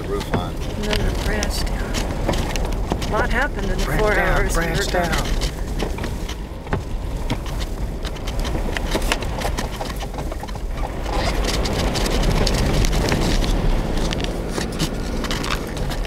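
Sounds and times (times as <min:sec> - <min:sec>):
engine and tyres rumbling: 0:00.0 - 0:16.0
sharp clicks and crackles: 0:00.0 - 0:16.0.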